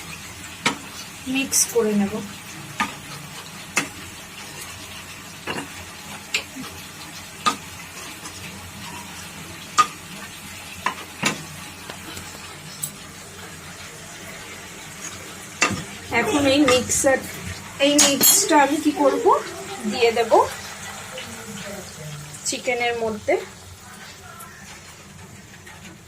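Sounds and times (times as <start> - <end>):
frying sizzle: 0.0 - 26.0.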